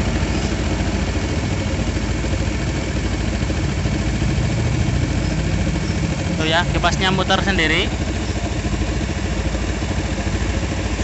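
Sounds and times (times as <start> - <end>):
motorcycle engine idling: 0.0 - 11.0
radiator cooling fan running: 0.0 - 11.0.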